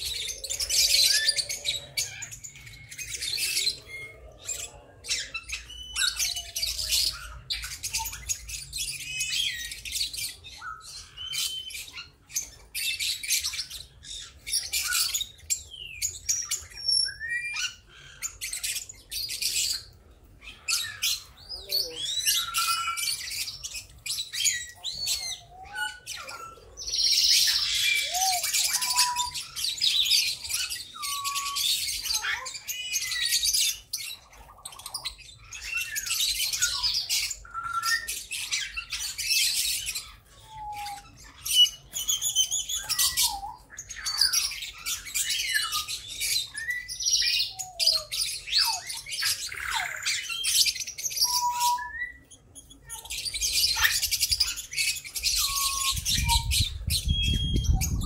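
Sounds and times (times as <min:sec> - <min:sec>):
parrots chattering and chirping: 0:00.0 - 0:58.0.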